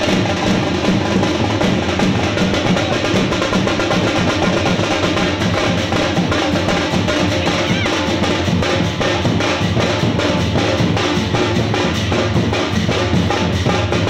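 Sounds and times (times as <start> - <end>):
booming bass drum: 0.0 - 14.0
drum band playing dance beat: 0.0 - 14.0.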